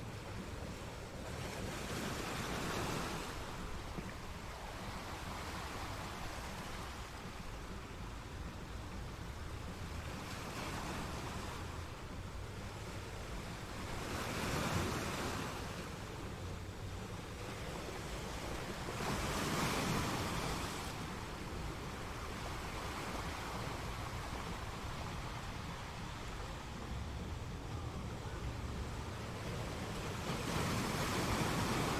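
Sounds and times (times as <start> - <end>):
steady rushing noise: 0.0 - 31.9.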